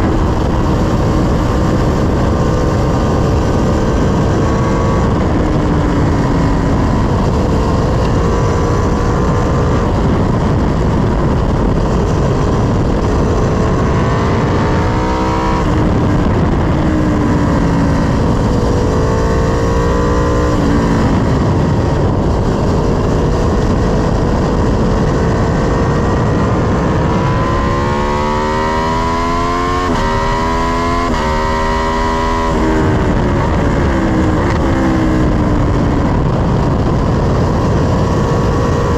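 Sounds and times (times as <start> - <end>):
motorcycle engine at speed: 0.0 - 38.9
wind rush: 0.0 - 38.9.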